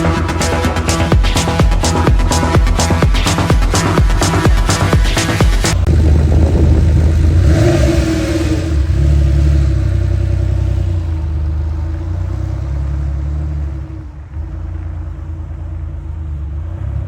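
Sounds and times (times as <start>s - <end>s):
car engine revving and rumbling: 0.0s - 17.0s.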